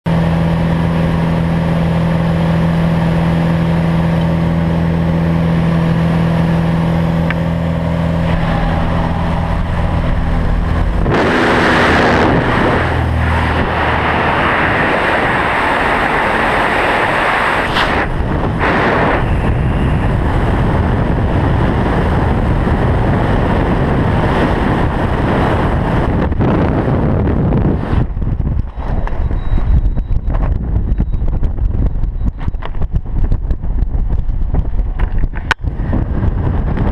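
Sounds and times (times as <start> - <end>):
light aircraft engine droning: 0.1 - 36.9
wind buffeting microphone: 0.4 - 36.9
wind rushing: 5.6 - 36.9.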